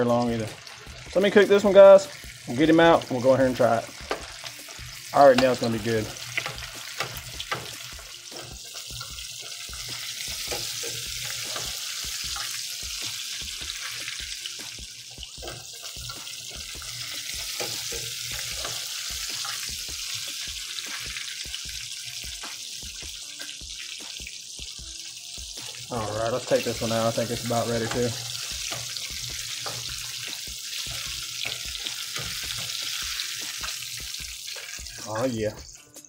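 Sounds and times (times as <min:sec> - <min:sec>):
fish frying in hot oil: 0:00.0 - 0:35.8.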